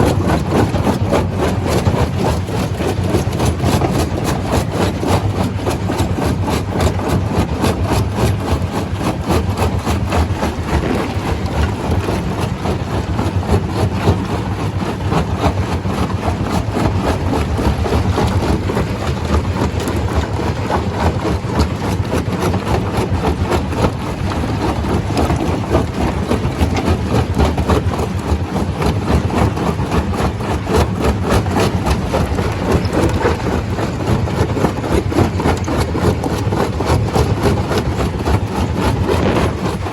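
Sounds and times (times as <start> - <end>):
stone crusher machine running: 0.0 - 39.9.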